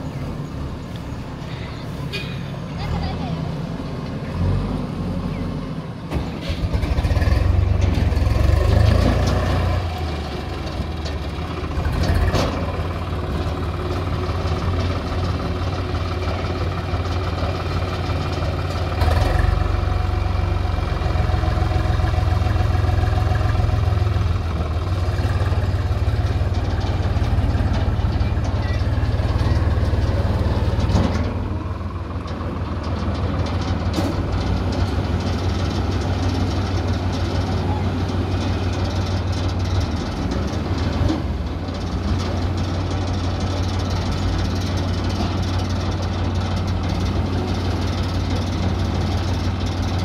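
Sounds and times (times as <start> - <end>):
tractor diesel engine rumbling: 0.0 - 50.0.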